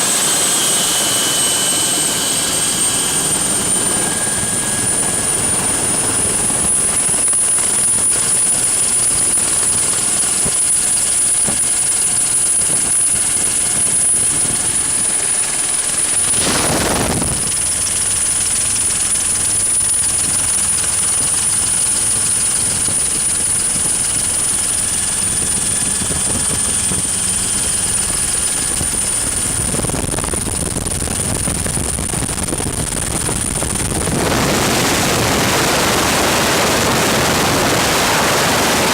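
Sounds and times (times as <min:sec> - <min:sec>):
helicopter engine and rotor noise: 0:00.0 - 0:38.9
high-pitched turbine whine: 0:00.0 - 0:38.9.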